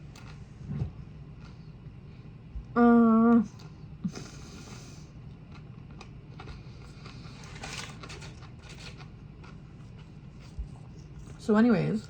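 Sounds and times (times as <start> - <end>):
soft chewing: 0.0 - 2.7, 3.3 - 12.0.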